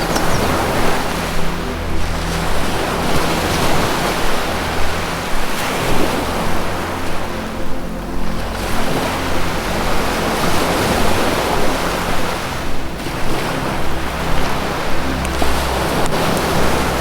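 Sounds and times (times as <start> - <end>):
low sustained music tones: 0.0 - 17.0
ocean waves washing in: 0.0 - 17.0.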